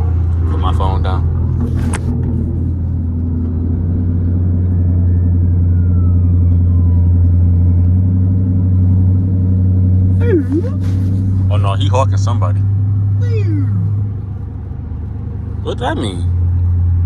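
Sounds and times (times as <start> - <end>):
car engine and exhaust drone: 0.0 - 17.0.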